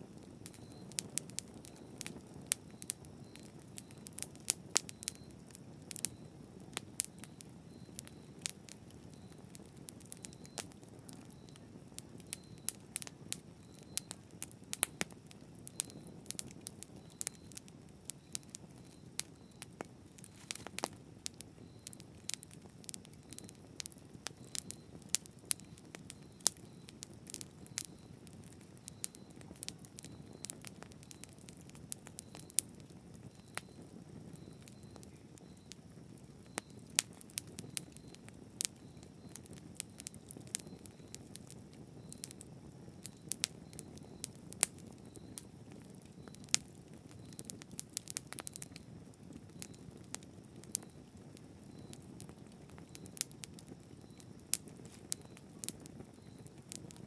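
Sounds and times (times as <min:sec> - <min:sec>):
bonfire flames roaring: 0:00.0 - 0:57.0
wood crackling and popping: 0:00.0 - 0:57.0.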